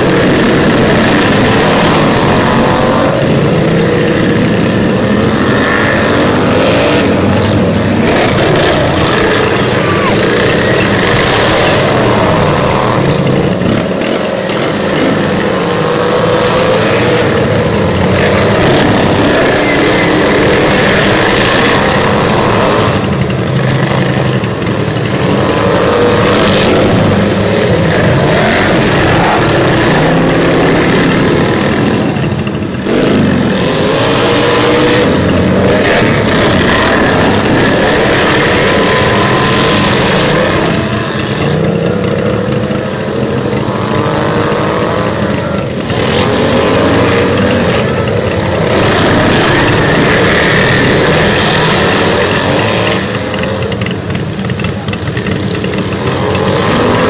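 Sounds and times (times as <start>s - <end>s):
racing lawn tractor engines revving: 0.0s - 57.0s.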